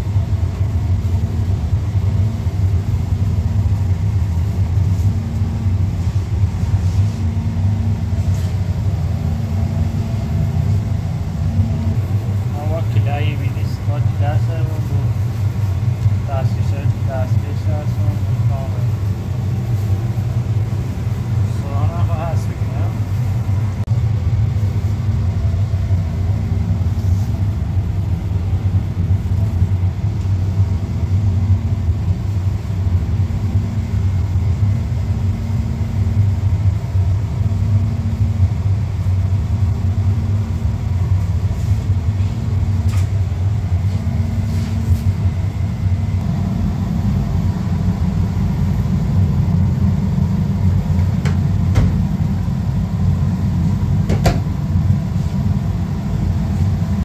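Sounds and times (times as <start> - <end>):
kitchen machinery humming: 0.0 - 57.0.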